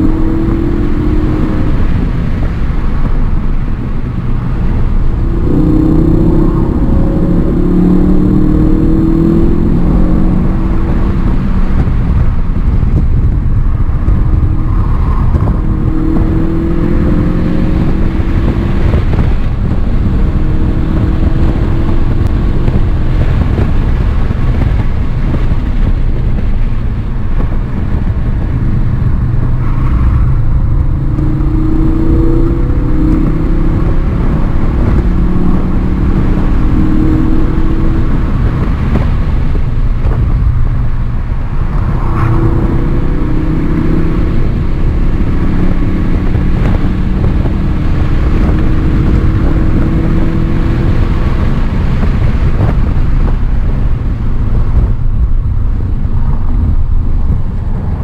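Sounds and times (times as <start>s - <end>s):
car engine revving: 0.0s - 58.0s
road and wind rumble: 0.0s - 58.0s.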